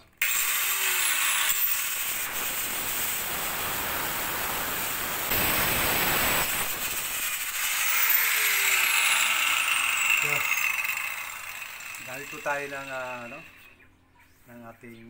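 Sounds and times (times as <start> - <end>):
angle grinder cutting metal tube: 0.2 - 13.7.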